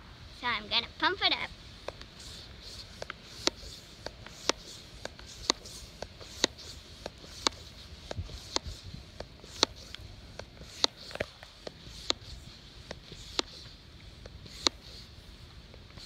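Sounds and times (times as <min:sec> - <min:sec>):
hand pump clicking: 0:01.8 - 0:15.0.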